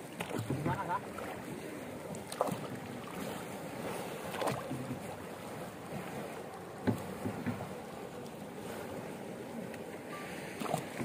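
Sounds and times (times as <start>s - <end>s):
paddle splashes: 0.0s - 11.0s
water sloshing around canoe: 0.0s - 11.0s.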